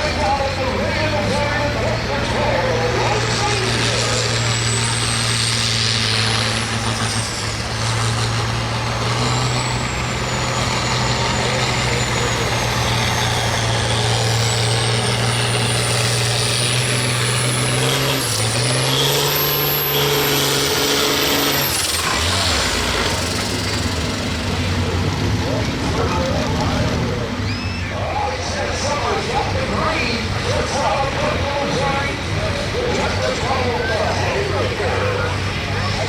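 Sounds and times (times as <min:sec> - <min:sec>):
diesel tractor engine at full throttle: 0:00.0 - 0:36.0.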